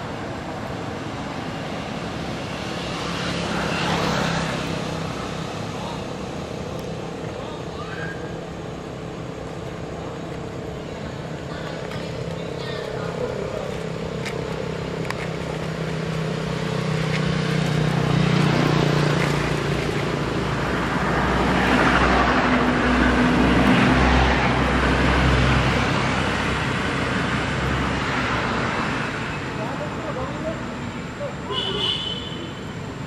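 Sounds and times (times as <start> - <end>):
vehicles passing: 0.0 - 33.0.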